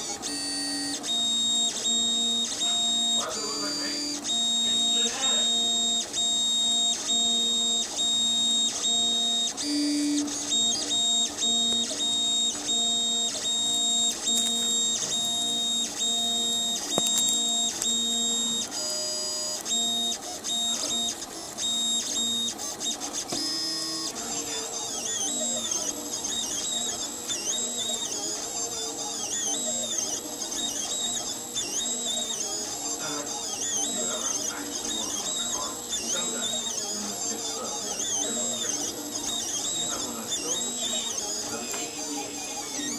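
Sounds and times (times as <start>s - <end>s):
stepper motors whining: 0.0s - 42.9s.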